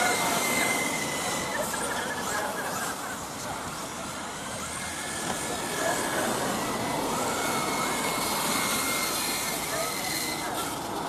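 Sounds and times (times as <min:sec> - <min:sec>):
electric rc car motors whining: 0:00.0 - 0:11.0.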